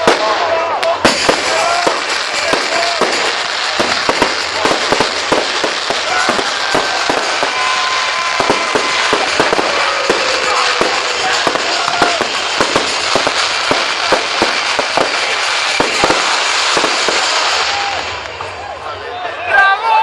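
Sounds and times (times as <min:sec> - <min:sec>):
fireworks whistling: 0:00.0 - 0:18.7
fireworks bangs and crackling: 0:00.0 - 0:18.9.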